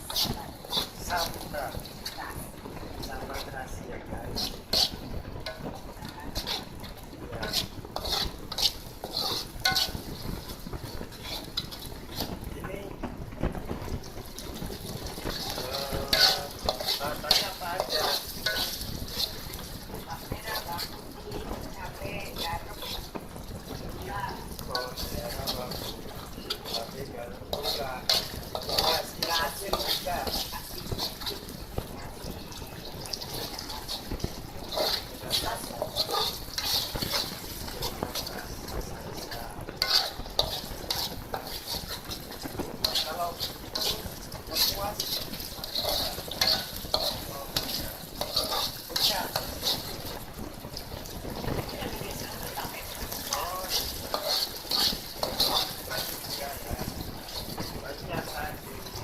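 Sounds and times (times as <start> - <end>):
frying hiss: 0.0 - 59.0
sauce sizzling in a pan: 0.0 - 59.0
spatula scraping a pan: 0.0 - 59.0.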